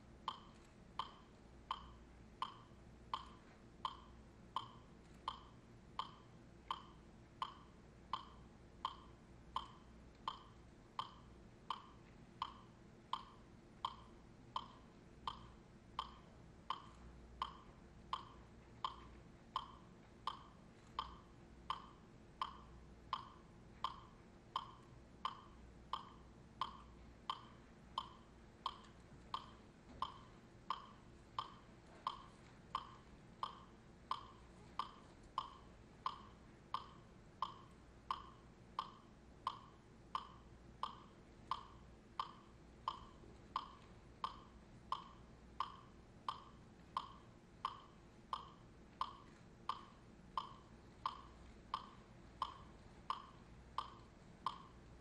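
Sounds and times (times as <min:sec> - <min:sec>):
metronome ticking: 0:00.0 - 0:55.0.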